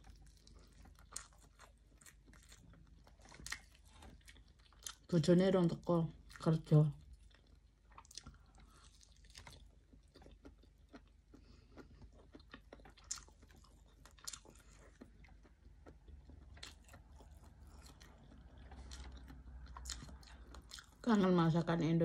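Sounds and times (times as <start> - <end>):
faint chewing and mouth clicks: 0.0 - 21.6.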